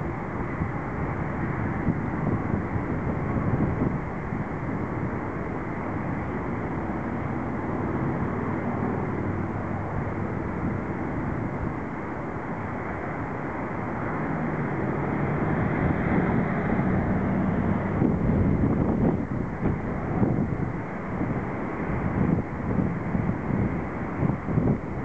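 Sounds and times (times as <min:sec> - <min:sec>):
turboprop engines droning: 0:00.0 - 0:25.0
wind buffeting microphone: 0:00.0 - 0:25.0.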